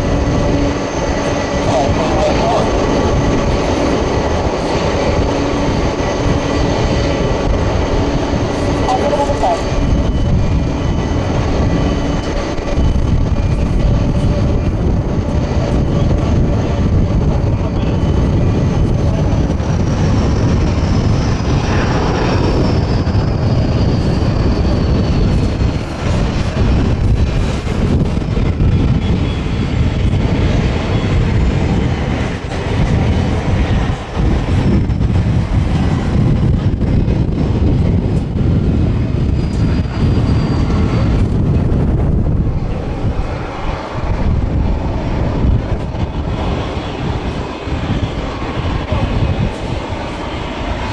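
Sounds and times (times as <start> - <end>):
high engine whine: 0.0 - 50.9
jet engines rumbling: 0.0 - 50.9.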